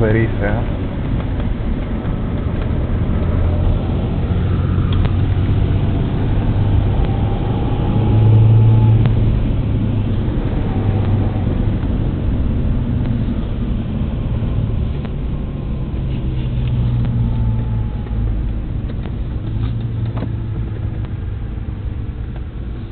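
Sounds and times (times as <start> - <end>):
car engine and tyre drone: 0.0 - 22.9.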